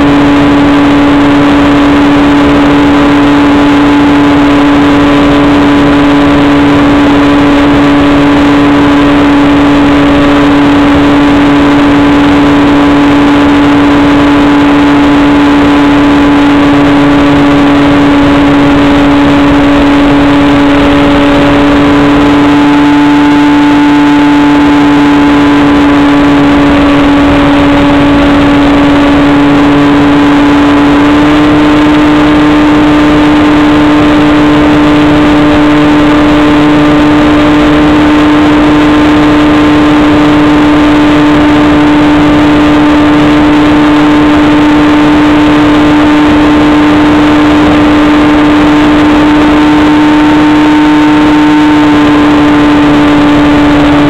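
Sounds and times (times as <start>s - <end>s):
model airplane engine droning: 0.0s - 54.0s
rushing air noise: 0.0s - 54.0s.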